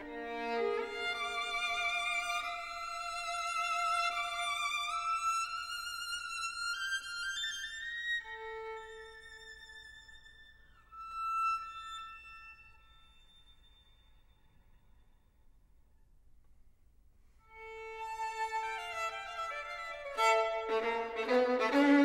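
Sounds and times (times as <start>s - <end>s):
solo violin-like melody: 0.0s - 14.3s, 17.5s - 22.0s.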